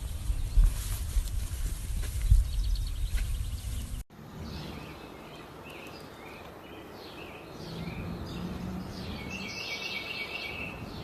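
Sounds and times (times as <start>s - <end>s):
small birds chirping: 0.0s - 1.1s, 1.8s - 11.0s.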